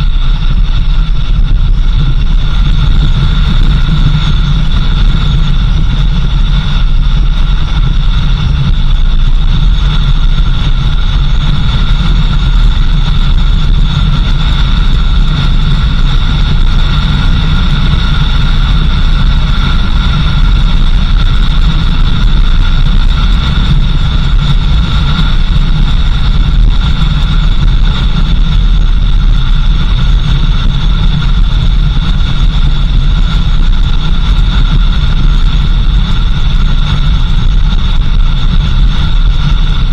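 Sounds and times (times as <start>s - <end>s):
engine and road rumble: 0.0s - 39.9s
higher hum or whine: 0.0s - 39.9s.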